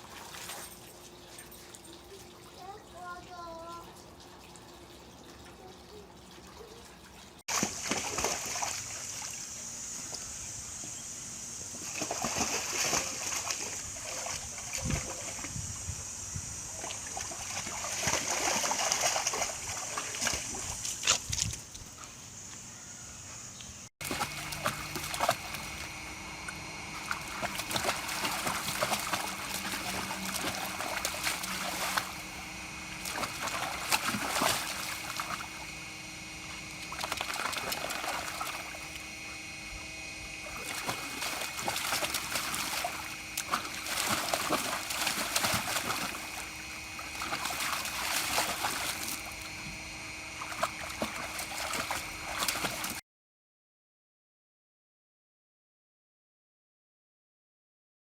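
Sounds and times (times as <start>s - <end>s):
water splashing and trickling: 0.0s - 9.6s, 11.7s - 16.0s, 16.6s - 22.0s, 24.0s - 39.2s, 40.4s - 49.6s, 50.3s - 53.0s.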